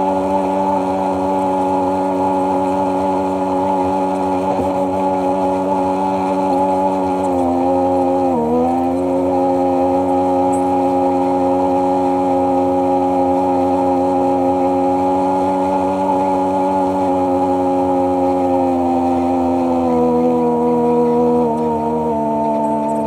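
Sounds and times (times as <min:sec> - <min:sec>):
watercraft engine running: 0:00.0 - 0:23.0.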